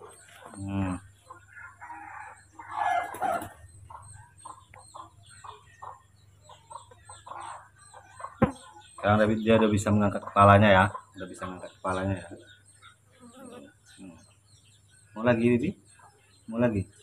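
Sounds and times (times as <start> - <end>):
animal calls: 0.0 - 17.0.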